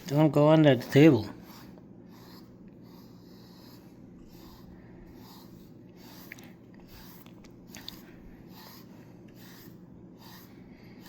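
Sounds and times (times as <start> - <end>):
brush strokes through cat fur: 0.2 - 11.0.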